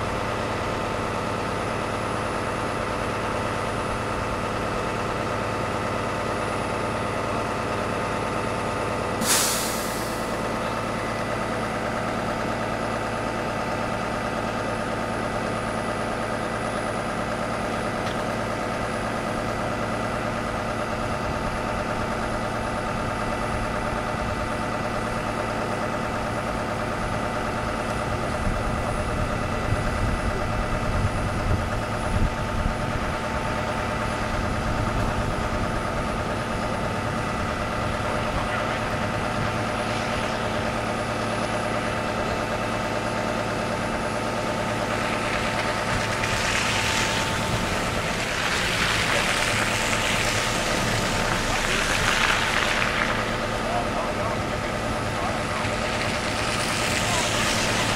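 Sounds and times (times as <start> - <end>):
bus engine idling: 0.0 - 57.9
low engine rumbles: 0.0 - 57.9.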